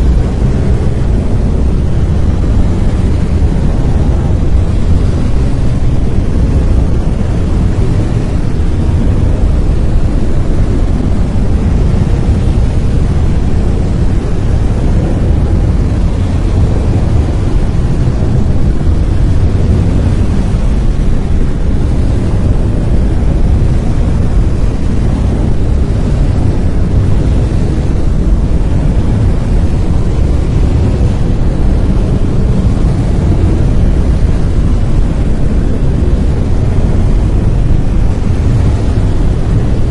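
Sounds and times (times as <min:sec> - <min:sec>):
deep rumbling brown noise: 0:00.0 - 0:39.9.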